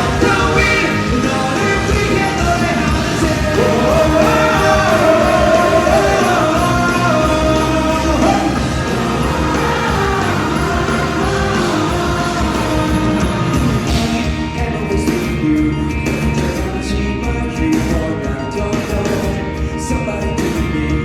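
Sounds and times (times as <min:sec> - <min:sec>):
lead vocal singing: 0:00.0 - 0:21.0
live rock band: 0:00.0 - 0:21.0.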